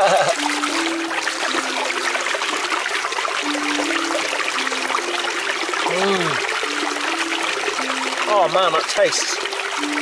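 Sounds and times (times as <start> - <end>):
brook water running: 0.0 - 10.0.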